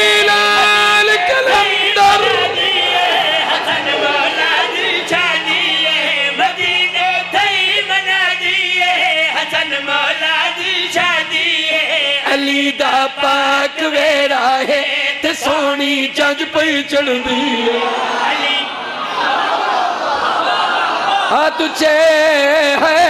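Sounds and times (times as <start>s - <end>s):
men singing devotional song: 0.0s - 18.7s, 21.3s - 23.0s.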